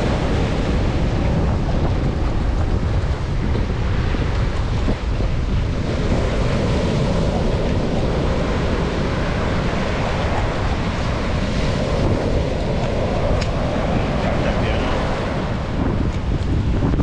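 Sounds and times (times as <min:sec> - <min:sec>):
surf on shore: 0:00.0 - 0:17.0
wind buffeting microphone: 0:00.0 - 0:17.0.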